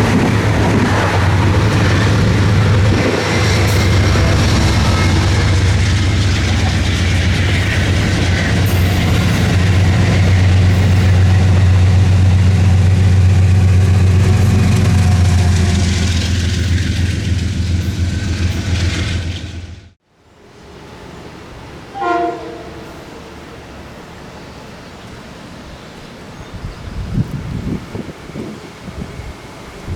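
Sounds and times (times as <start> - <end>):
train rumbling past: 0.0 - 29.9.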